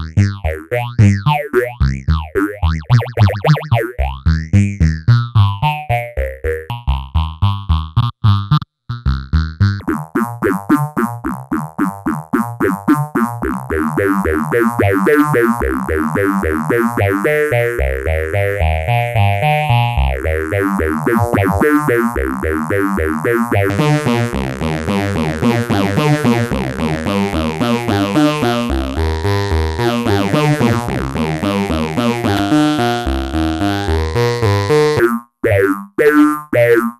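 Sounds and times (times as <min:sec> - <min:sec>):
synthesizer fast repeated notes: 0:00.0 - 0:07.3, 0:09.8 - 0:36.9.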